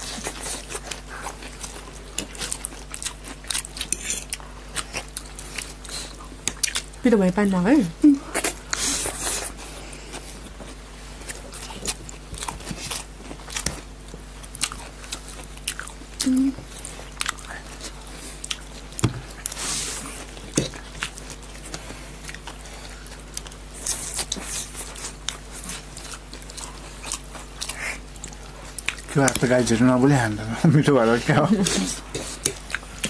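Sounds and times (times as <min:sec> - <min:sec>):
chewing and slurping: 0:00.0 - 0:07.0, 0:08.3 - 0:30.2, 0:31.6 - 0:33.0.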